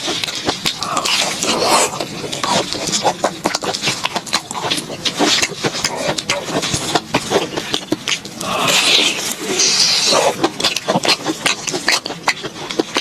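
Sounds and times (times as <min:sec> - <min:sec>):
crunchy chewing: 0:00.0 - 0:13.0
wet mouth clicks: 0:00.0 - 0:13.0.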